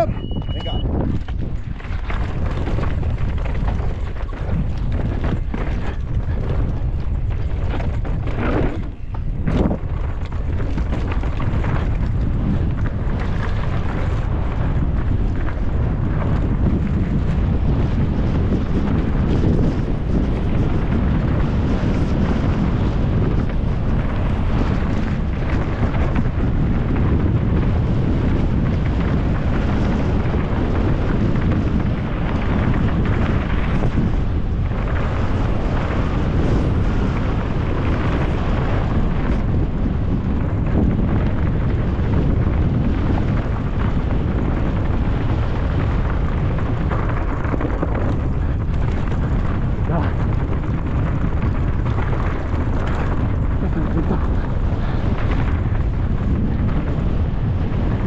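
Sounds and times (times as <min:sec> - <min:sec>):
bike clattering over rough trail: 0:00.0 - 0:58.0
wind rumble on microphone: 0:00.0 - 0:58.0.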